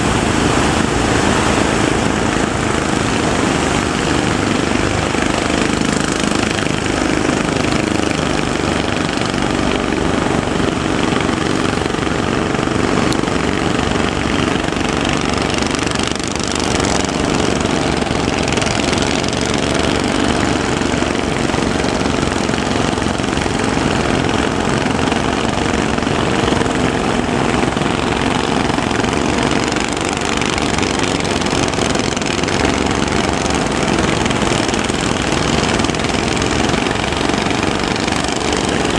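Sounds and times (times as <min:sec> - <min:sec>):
boat motor running: 0:00.0 - 0:38.9
continuous rushing noise: 0:00.0 - 0:38.9.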